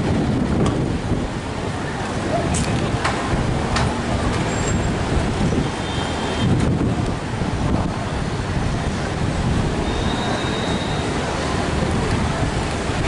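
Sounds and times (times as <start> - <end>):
road traffic noise: 0.0 - 13.0
wind rumble on microphone: 0.0 - 13.0.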